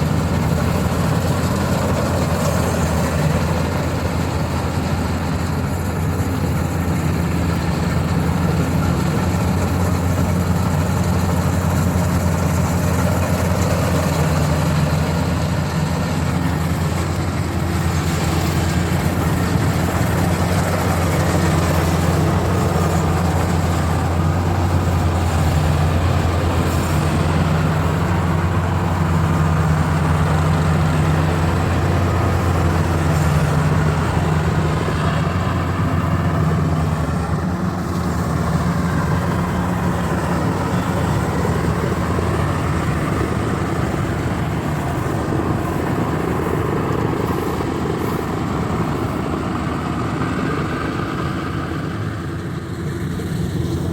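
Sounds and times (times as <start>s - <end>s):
combine harvester engine drone: 0.0s - 53.9s.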